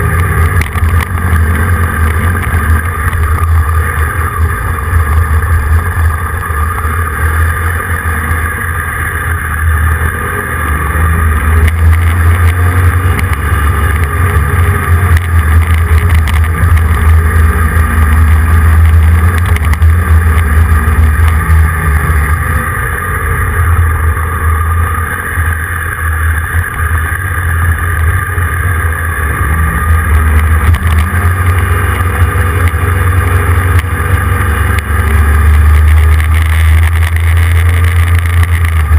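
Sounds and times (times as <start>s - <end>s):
low rumble of moving vehicle: 0.0s - 38.9s.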